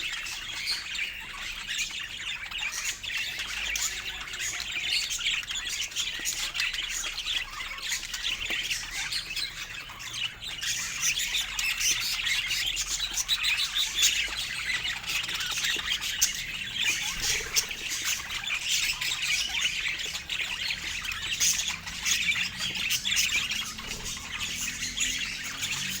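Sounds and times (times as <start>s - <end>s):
budgerigars chirping and chattering: 0.0s - 26.0s.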